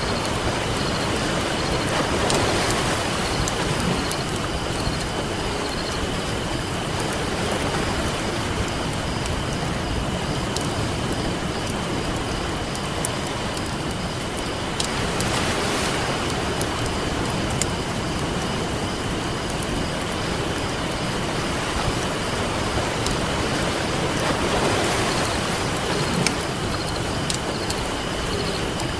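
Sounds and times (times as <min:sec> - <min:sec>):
ocean waves: 0:00.0 - 0:28.9
campfire crackling and popping: 0:00.1 - 0:28.9.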